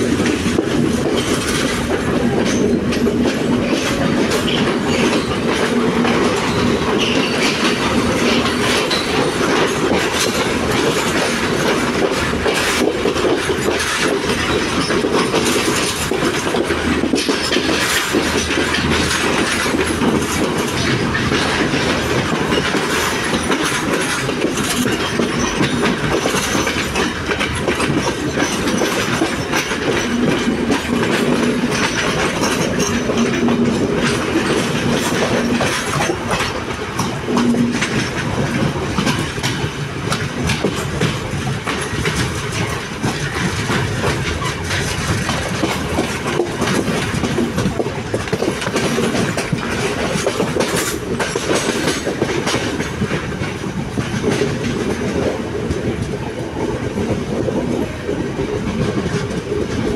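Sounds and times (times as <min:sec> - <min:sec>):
train rumbling: 0:00.0 - 0:59.9
wheels clacking over rail joints: 0:00.0 - 0:59.9.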